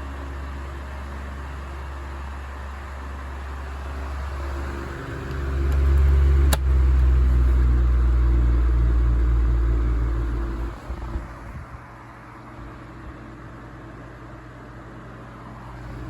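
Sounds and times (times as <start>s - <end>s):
fan airflow rumble on microphone: 0.0s - 16.0s.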